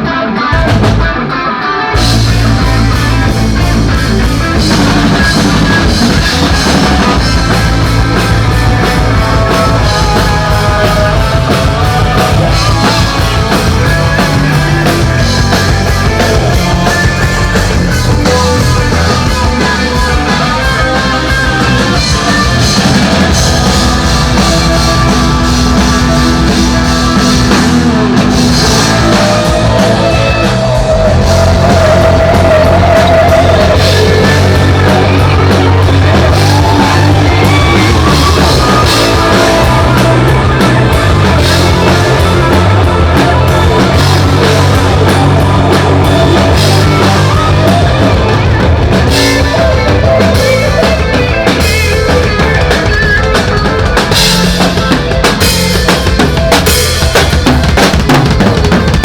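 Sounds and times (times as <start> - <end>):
drums: 0.0 - 59.0
rock band playing loud: 0.0 - 59.0.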